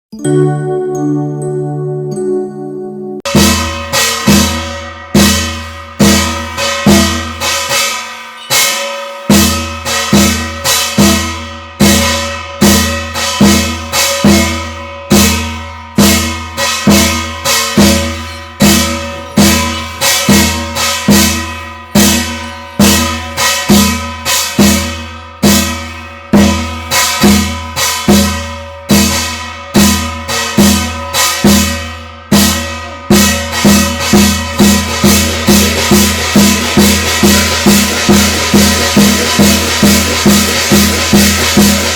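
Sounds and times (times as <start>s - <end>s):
ringing metal percussion: 3.2s - 41.9s
drum beat: 3.3s - 41.9s.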